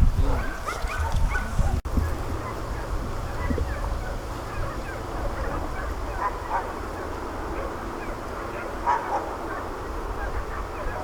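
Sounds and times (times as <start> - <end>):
distant dogs barking: 0.1 - 11.0.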